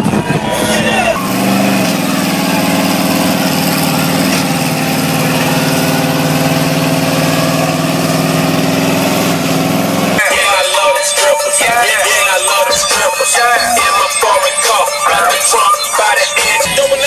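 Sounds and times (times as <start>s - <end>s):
engine revving high: 0.4s - 17.0s.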